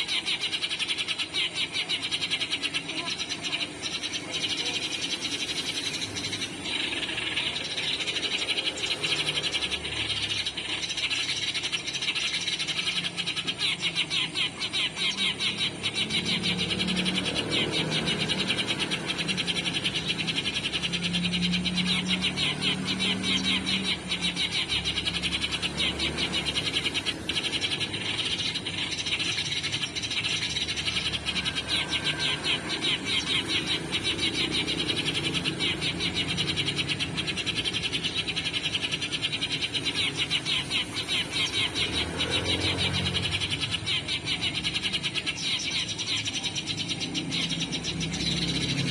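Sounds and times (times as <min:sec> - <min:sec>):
sparrow chirping from speaker: 0:00.0 - 0:48.9.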